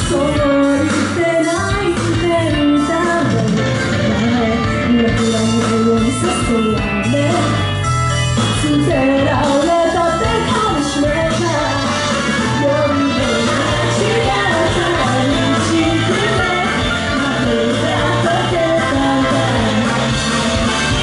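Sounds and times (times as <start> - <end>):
woman singing into microphone: 0.0 - 7.7, 8.5 - 20.1
loud rock music: 0.0 - 21.0.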